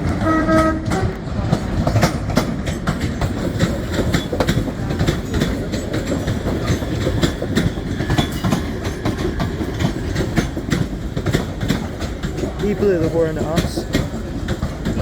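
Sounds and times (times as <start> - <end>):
train low rumble: 0.0 - 15.0
train wheels clicking over rail joints: 0.0 - 15.0.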